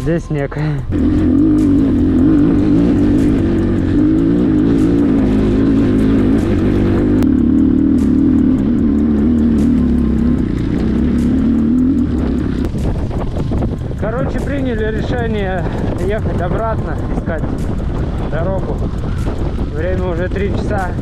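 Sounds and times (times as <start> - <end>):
motorcycle engine running: 0.8 - 21.0.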